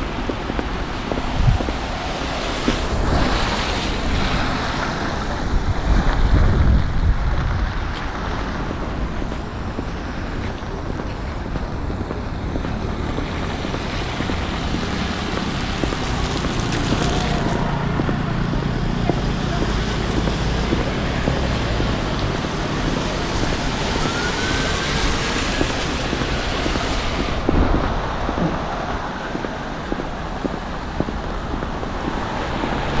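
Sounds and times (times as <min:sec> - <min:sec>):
tyres hissing on wet road: 0:00.0 - 0:33.0
wind on microphone: 0:00.0 - 0:33.0.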